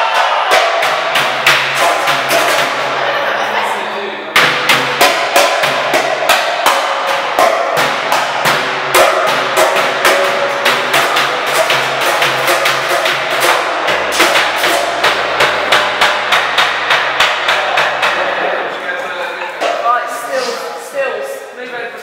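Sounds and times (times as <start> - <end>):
drumsticks beating metal trash can: 0.0 - 3.0, 4.4 - 18.4, 19.4 - 20.7.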